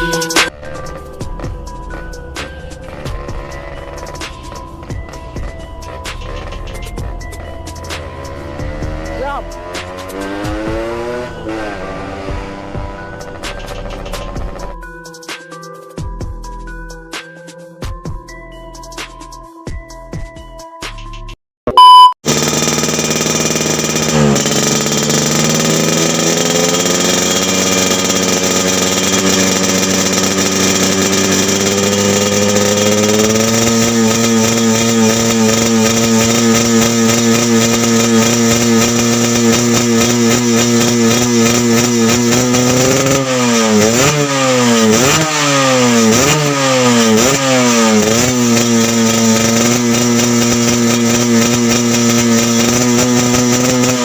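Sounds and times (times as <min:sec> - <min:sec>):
motorcycle engine revving: 0:00.0 - 0:14.8, 0:21.8 - 0:54.0.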